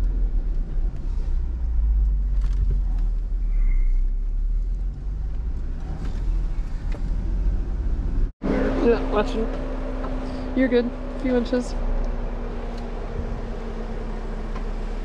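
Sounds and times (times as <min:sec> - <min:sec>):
low rumble of engine and tyres: 0:00.0 - 0:15.0.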